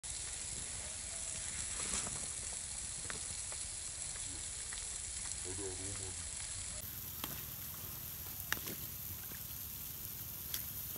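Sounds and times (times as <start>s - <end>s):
steady outdoor hiss: 0.0s - 10.9s.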